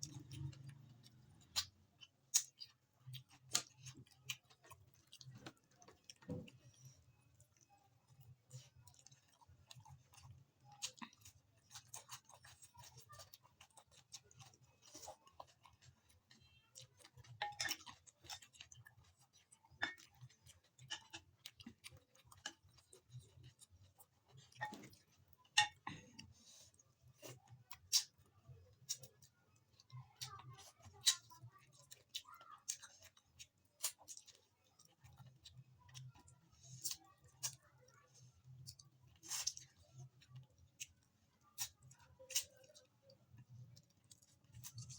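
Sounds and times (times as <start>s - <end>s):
chewing and mouth smacks: 0.0s - 44.9s.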